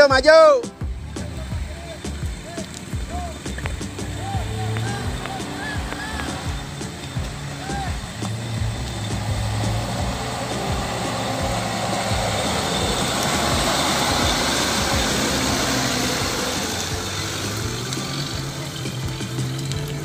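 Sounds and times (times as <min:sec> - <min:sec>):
car engine under load: 0:00.6 - 0:20.0
tyres sloshing through mud: 0:00.7 - 0:20.0.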